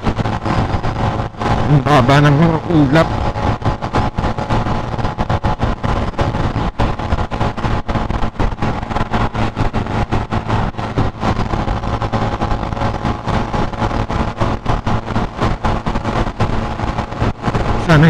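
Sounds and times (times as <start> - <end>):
motorcycle engine hum: 0.0 - 18.0
wind buffeting microphone: 0.0 - 18.0.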